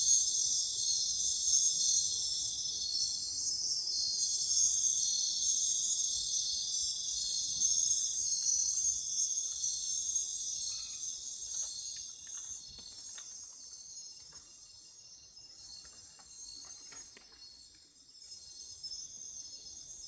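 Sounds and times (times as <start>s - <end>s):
night insects trilling: 0.0s - 20.0s.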